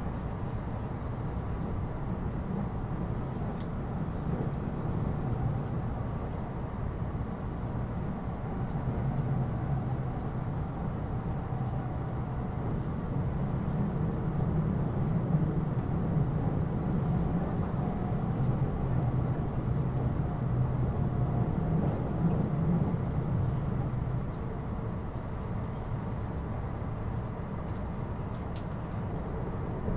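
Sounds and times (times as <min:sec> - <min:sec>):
train rumble inside cabin: 0:00.0 - 0:29.9.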